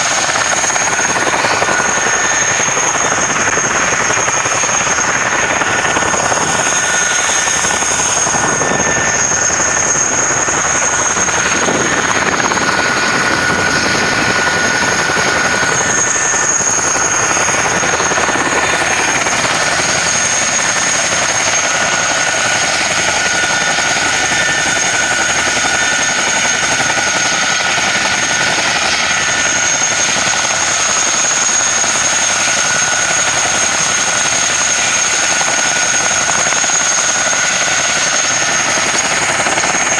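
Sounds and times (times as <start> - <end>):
helicopter engine and rotor: 0.0 - 39.9
high-pitched whine: 0.0 - 39.9.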